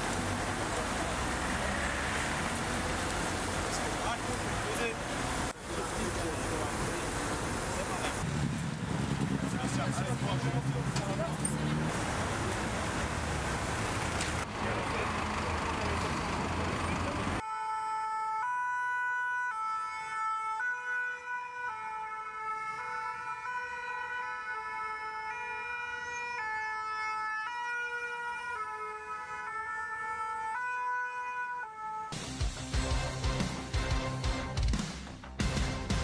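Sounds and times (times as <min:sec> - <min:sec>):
motorway traffic: 0:00.0 - 0:35.6.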